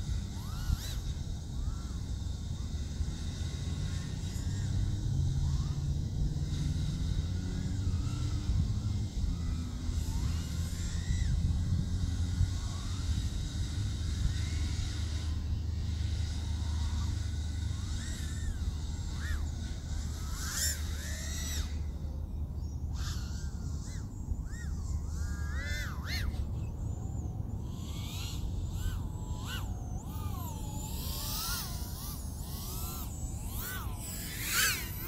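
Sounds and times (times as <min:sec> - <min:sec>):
quadcopter motors whining: 0:00.0 - 0:35.0
steady low hum: 0:00.0 - 0:35.0.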